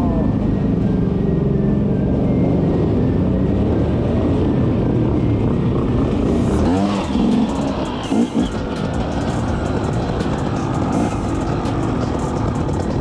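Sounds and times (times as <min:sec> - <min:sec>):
motorbike and quad engines running: 0:00.0 - 0:13.0
engine revving: 0:02.3 - 0:13.0.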